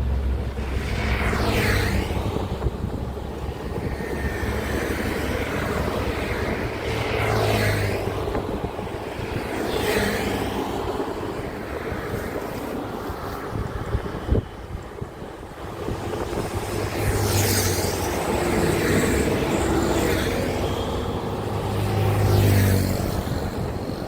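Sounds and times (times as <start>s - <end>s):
highway traffic rumble: 0.0s - 24.0s
vehicles passing close by: 0.0s - 24.0s.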